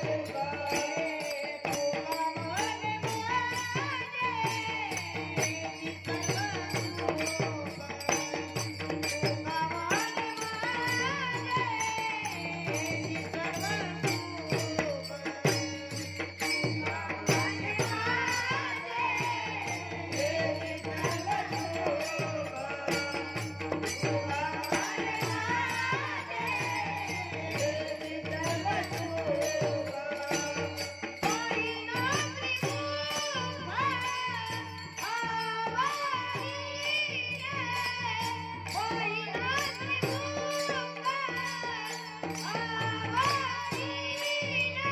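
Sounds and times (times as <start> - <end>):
boy singing: 0.0 - 44.9
hand cymbals struck: 0.0 - 44.9.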